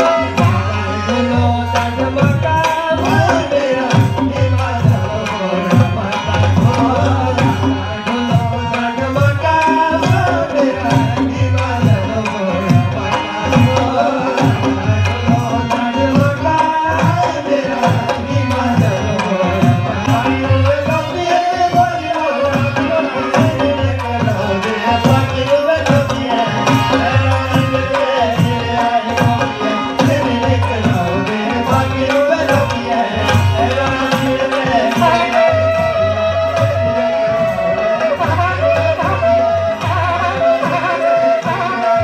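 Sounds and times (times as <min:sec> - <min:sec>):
folk melody: 0:00.0 - 0:42.0
hand drums beating: 0:00.0 - 0:42.0.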